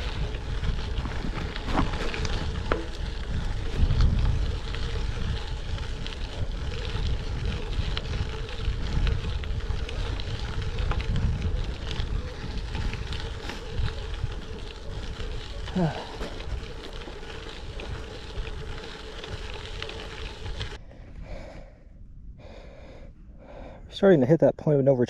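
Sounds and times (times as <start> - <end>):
bike clicks and rattles: 0.0 - 21.4
bike tyres rolling on gravel: 0.0 - 21.6
wind buffeting microphone: 0.0 - 23.9.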